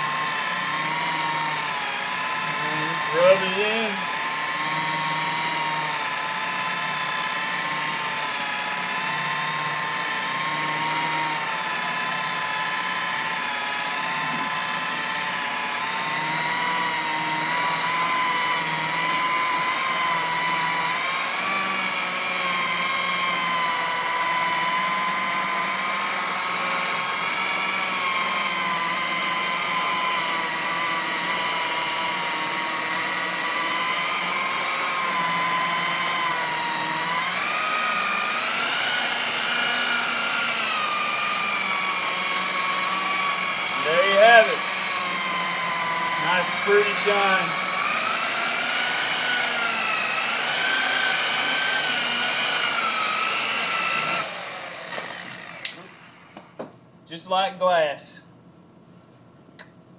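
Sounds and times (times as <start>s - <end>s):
rotary polisher motor whine: 0.0s - 56.7s.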